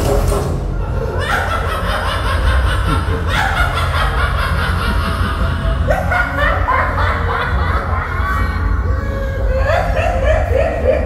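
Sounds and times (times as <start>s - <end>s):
man laughing: 1.0s - 11.0s.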